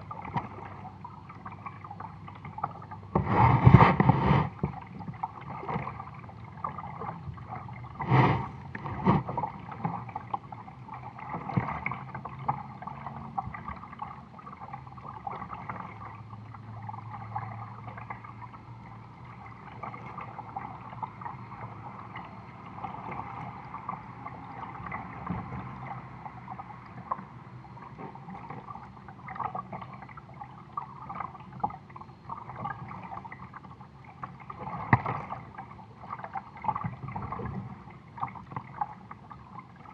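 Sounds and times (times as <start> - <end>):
water lapping against kayak hull: 0.0 - 39.9.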